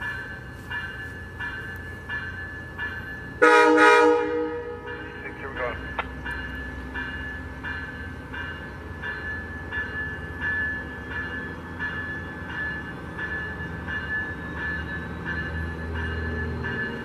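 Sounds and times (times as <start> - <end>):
railroad warning bell ringing: 0.0 - 17.0
train rumble: 0.0 - 17.0.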